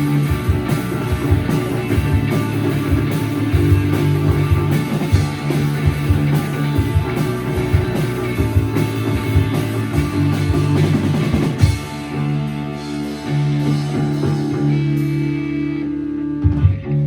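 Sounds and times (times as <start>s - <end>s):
drum hits: 0.0s - 15.4s
electric guitar chords: 0.0s - 17.0s
rock band playing: 0.0s - 17.0s.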